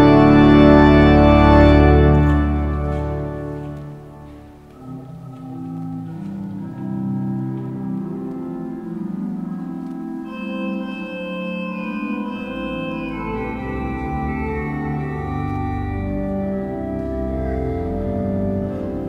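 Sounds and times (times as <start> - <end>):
pipe organ playing chords: 0.0 - 19.0.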